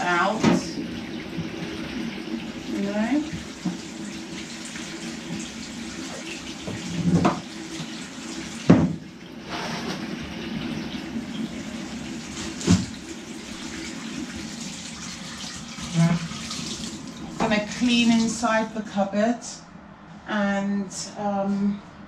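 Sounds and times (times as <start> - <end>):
tap water running into sink: 0.0 - 17.8.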